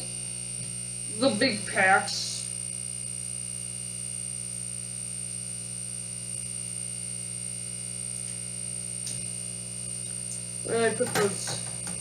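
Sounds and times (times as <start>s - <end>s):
electrical hum and buzz: 0.0s - 12.0s.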